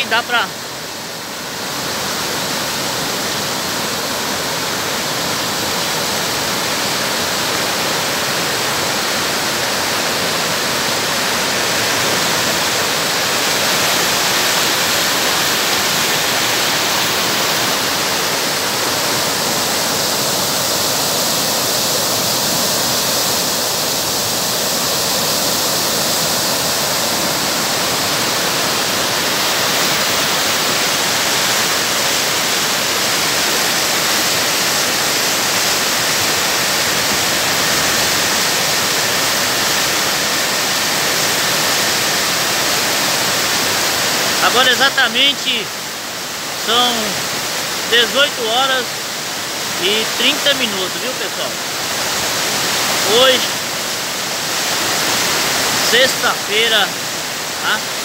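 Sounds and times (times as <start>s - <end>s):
water rushing over spillway: 0.0s - 58.0s.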